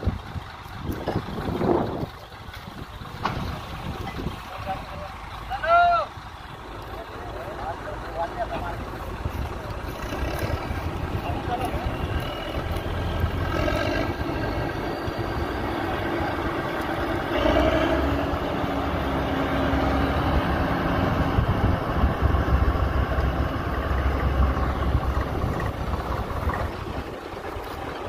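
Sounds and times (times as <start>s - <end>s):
combine harvester running: 0.0s - 28.0s.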